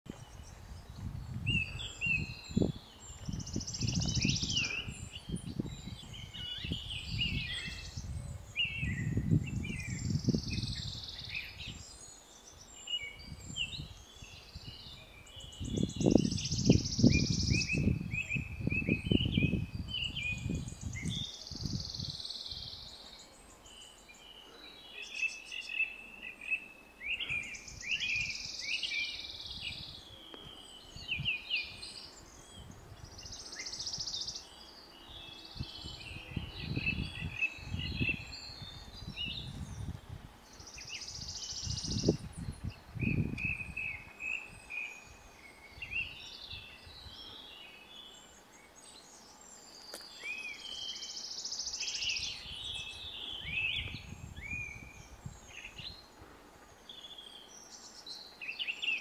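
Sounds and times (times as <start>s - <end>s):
small birds chirping: 0.1s - 59.0s.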